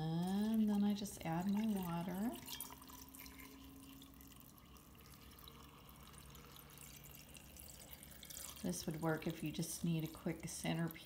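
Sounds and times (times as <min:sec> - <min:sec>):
water trickling into a glass vase: 0:00.0 - 0:11.0.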